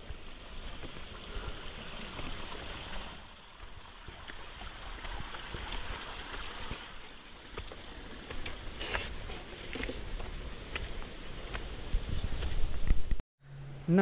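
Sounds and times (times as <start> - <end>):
stream water running: 0.0 - 12.9.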